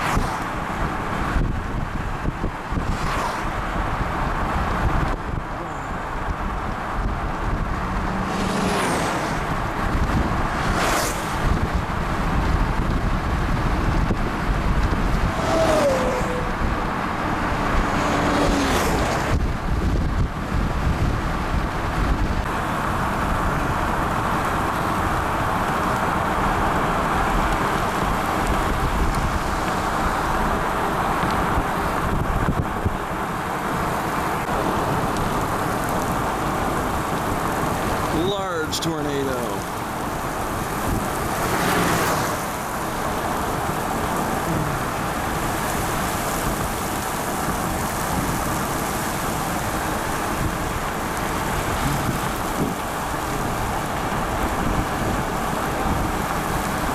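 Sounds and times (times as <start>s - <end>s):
vehicle road noise: 0.0s - 56.9s
wind: 0.0s - 56.9s.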